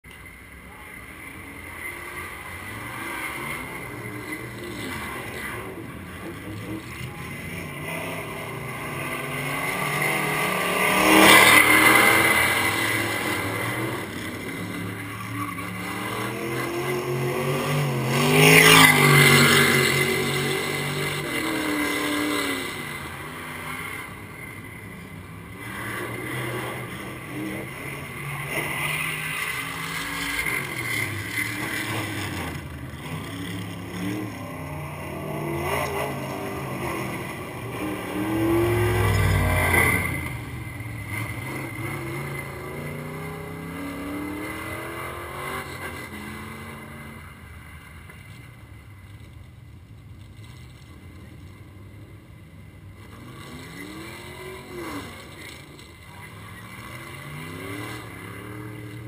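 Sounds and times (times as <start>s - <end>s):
race car engine: 0.0s - 59.0s.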